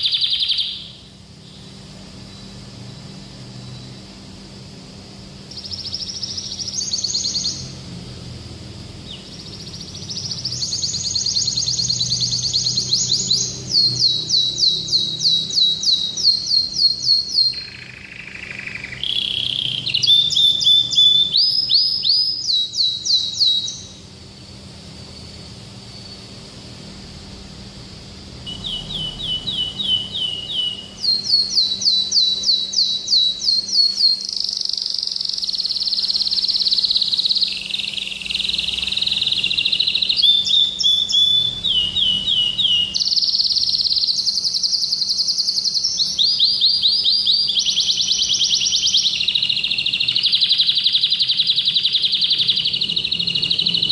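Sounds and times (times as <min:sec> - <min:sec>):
canary singing: 0:00.0 - 0:27.0, 0:28.1 - 0:53.9.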